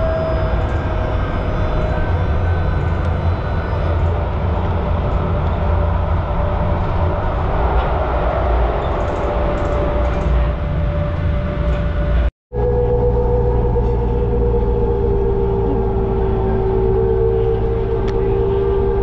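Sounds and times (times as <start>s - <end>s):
train rumbling: 0.0s - 19.0s
train whine: 0.0s - 19.0s.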